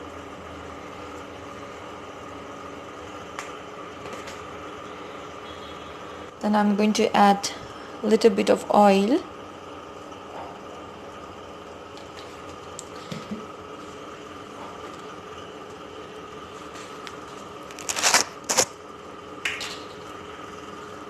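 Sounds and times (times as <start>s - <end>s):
steady room hum: 0.0s - 21.0s.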